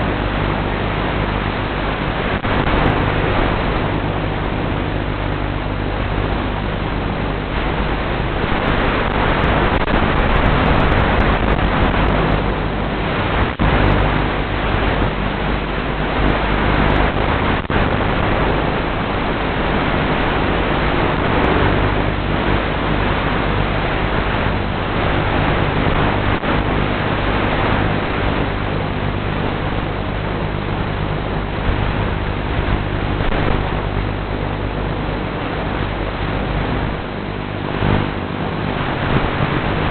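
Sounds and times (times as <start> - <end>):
low hum: 0.0 - 39.9
static hiss: 0.0 - 39.9.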